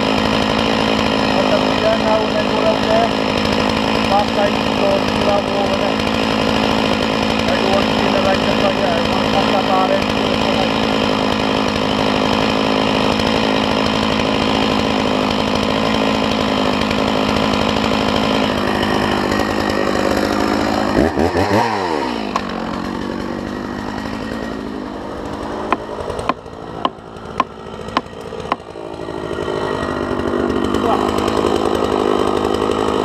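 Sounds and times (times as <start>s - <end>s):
chainsaw running: 0.0s - 33.0s.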